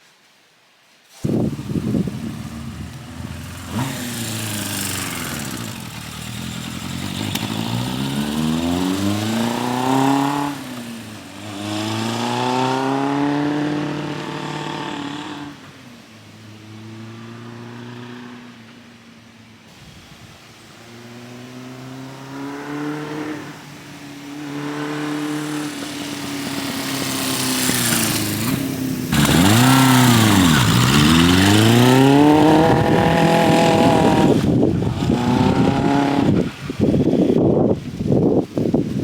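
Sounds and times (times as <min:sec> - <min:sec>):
motorcycle engine accelerating: 0:01.2 - 0:15.7, 0:20.8 - 0:39.0.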